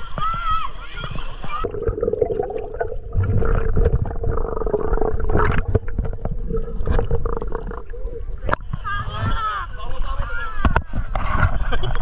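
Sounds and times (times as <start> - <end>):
underwater gurgling and sloshing: 1.0 - 12.0.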